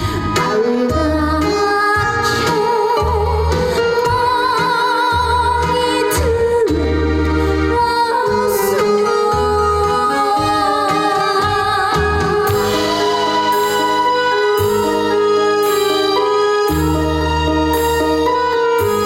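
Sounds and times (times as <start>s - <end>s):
woman singing with vibrato: 0.0s - 15.3s
instrumental backing track: 0.0s - 19.0s.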